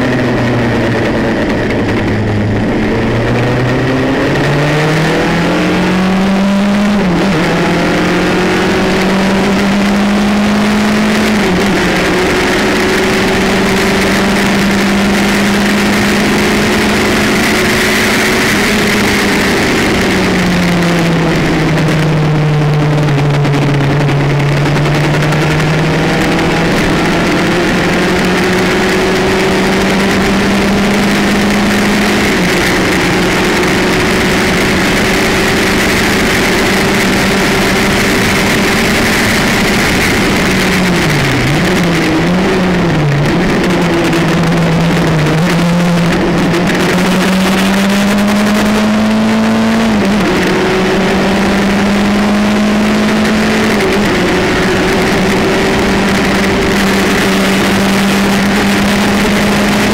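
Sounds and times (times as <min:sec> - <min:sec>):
wind rushing: 0:00.0 - 0:57.2
race car engine revving: 0:00.0 - 0:59.9.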